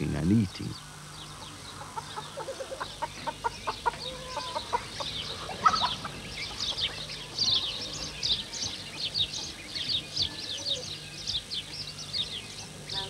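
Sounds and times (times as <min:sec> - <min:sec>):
small birds chirping: 0:00.0 - 0:13.0
chickens clucking: 0:00.7 - 0:13.0.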